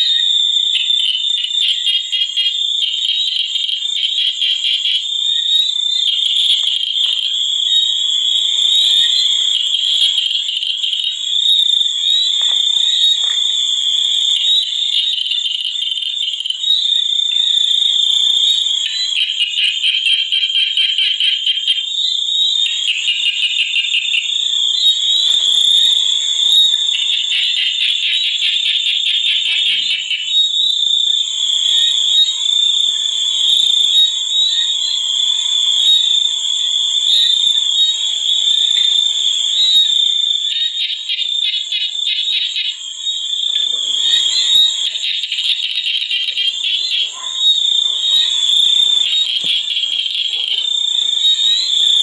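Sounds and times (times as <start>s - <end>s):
frogs: 0.0s - 52.0s
high-pitched insect drone: 0.0s - 52.0s.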